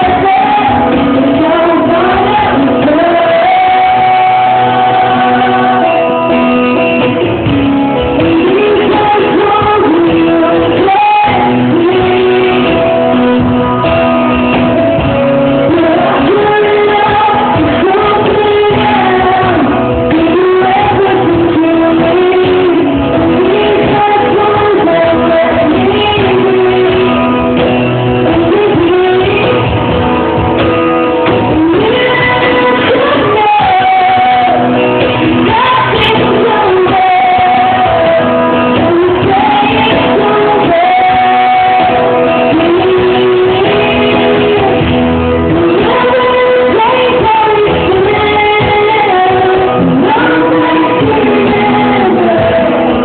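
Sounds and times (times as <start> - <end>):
acoustic guitar: 0.0 - 53.0
person singing: 0.0 - 53.0.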